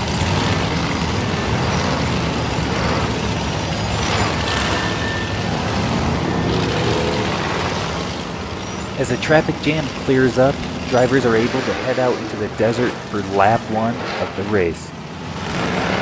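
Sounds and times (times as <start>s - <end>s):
racing car engines running: 0.0s - 16.0s.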